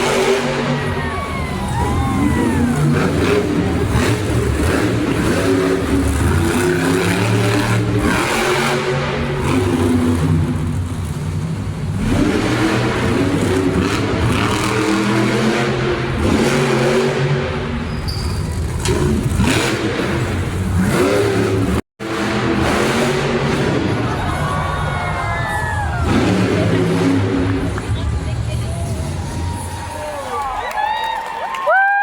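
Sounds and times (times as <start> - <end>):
monster truck engines revving: 0.0 - 32.0.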